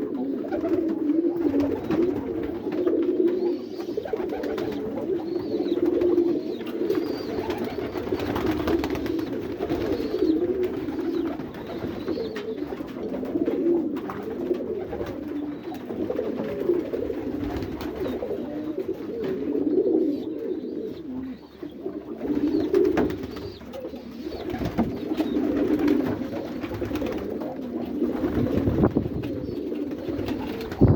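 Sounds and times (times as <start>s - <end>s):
pigeons cooing: 0.0s - 30.9s.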